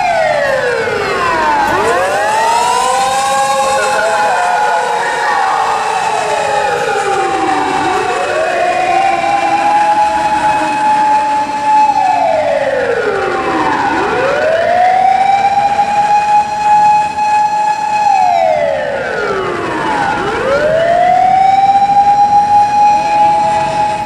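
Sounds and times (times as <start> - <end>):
ambulance siren wailing: 0.0 - 24.0.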